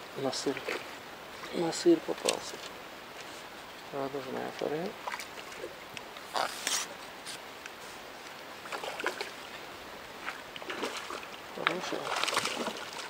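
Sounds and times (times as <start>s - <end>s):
small river flowing: 0.0s - 13.0s.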